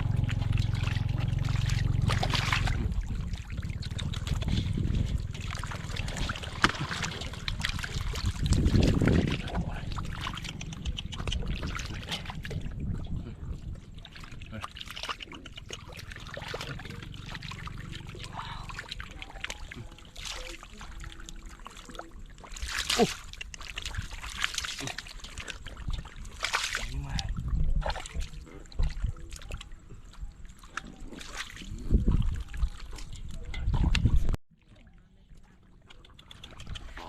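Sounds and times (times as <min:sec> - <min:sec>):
water splashing and sloshing: 0:00.0 - 0:37.0.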